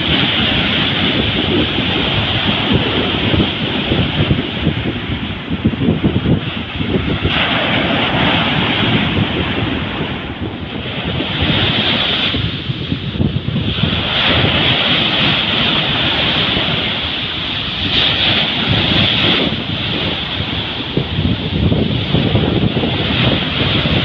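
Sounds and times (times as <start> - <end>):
surf breaking on a beach: 0.0 - 24.0
wind buffeting microphone: 0.0 - 24.0.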